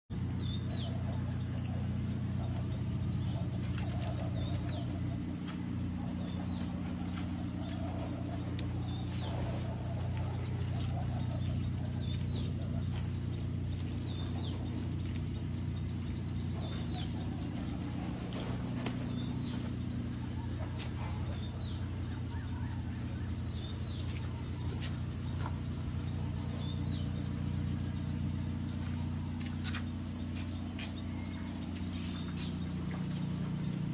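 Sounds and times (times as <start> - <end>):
tractor diesel engine idling: 0.2 - 33.9.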